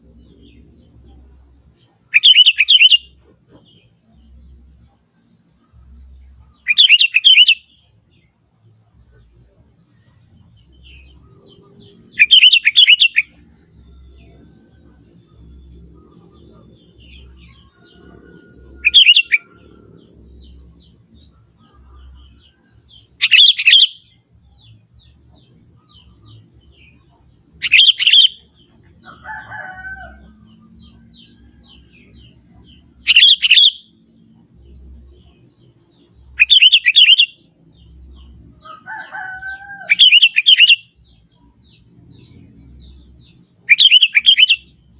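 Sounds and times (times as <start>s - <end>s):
bird song phrases: 0.0s - 44.9s.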